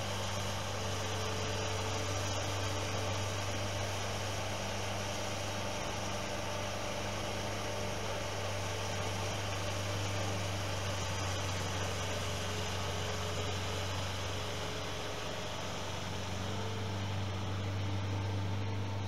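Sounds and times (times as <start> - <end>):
skid steer engine running: 0.0 - 19.0.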